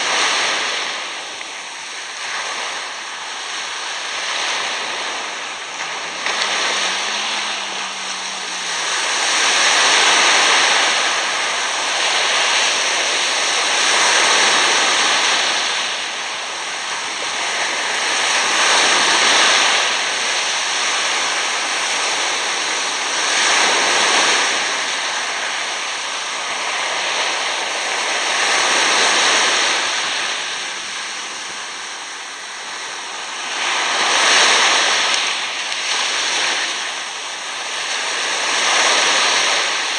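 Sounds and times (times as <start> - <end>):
small waves washing on sand: 0.0 - 39.9.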